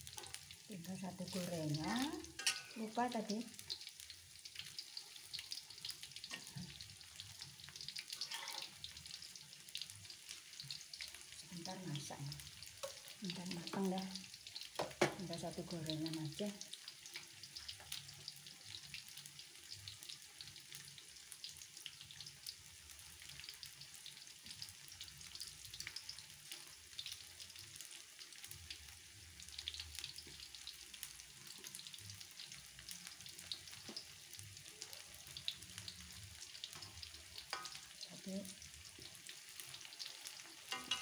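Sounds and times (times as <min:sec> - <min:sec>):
food deep-frying in oil: 0:00.0 - 0:41.0.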